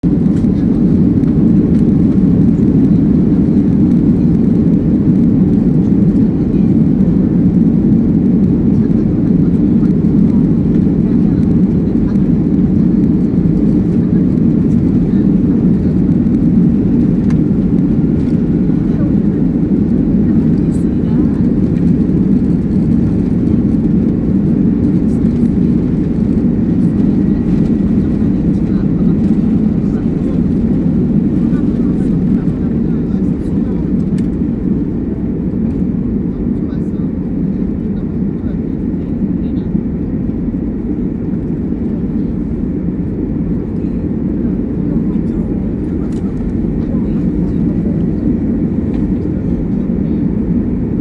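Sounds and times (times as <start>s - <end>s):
airplane engines taking off: 0.0s - 51.0s.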